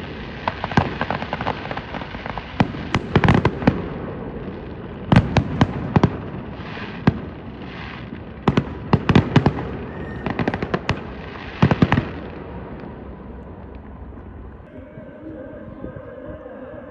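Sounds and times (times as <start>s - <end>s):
bonfire cracks and pops: 0.0s - 14.2s
fire crackling hiss: 0.0s - 14.7s.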